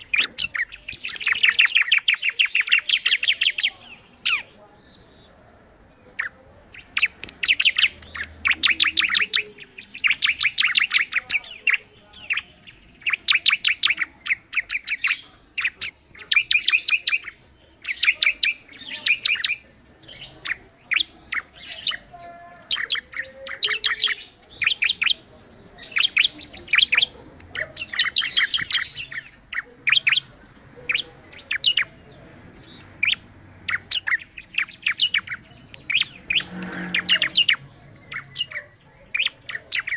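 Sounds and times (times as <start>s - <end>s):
bird singing sharp chirps: 0.0s - 5.3s, 6.1s - 39.9s.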